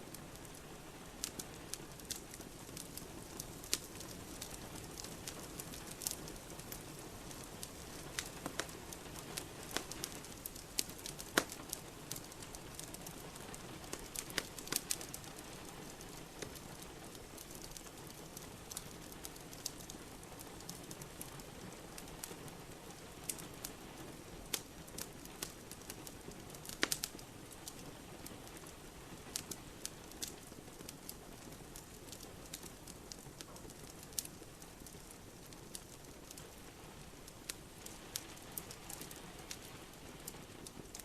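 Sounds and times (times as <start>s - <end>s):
steady rain: 0.0s - 41.0s
wood fire crackling: 0.0s - 41.0s.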